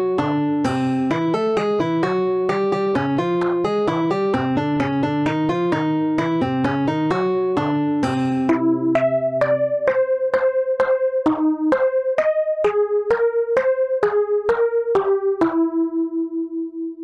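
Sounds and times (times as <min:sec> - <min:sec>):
melody of short single notes: 0:00.2 - 0:16.9.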